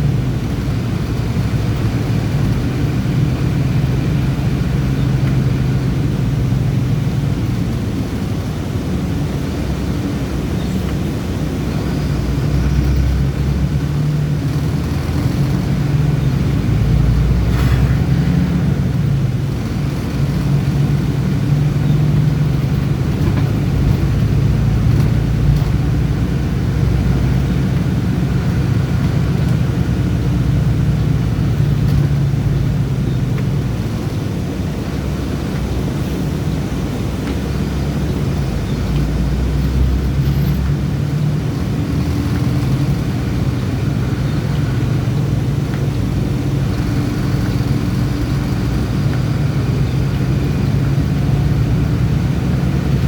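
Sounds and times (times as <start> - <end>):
bus engine drone: 0.0 - 53.0
road noise: 0.0 - 53.0.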